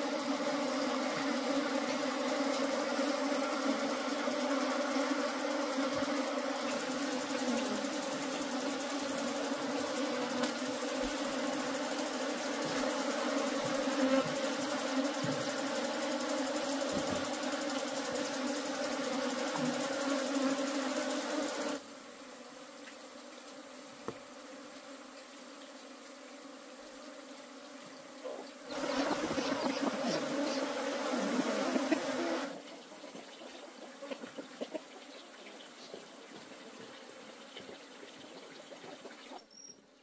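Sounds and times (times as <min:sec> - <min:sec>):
honeybees buzzing: 0:00.0 - 0:39.7.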